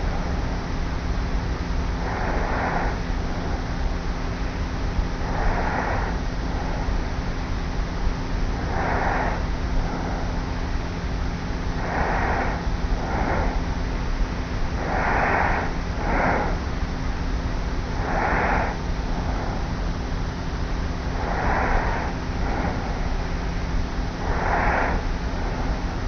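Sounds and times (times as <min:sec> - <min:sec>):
tape hiss and hum: 0:00.0 - 0:26.0.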